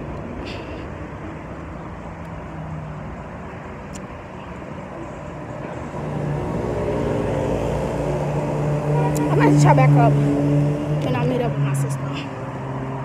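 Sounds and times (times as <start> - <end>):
traffic rumbling: 0.0 - 13.0.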